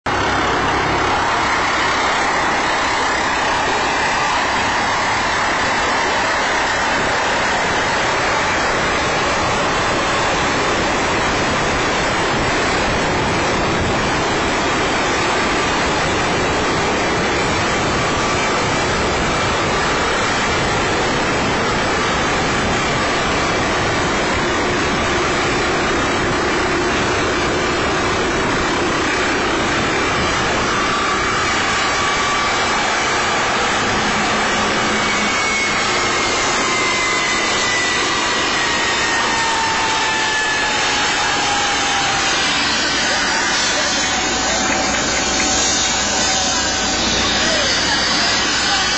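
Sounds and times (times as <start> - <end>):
helicopter rotor rushing noise: 0.0 - 48.9
faint high whine: 0.1 - 48.9.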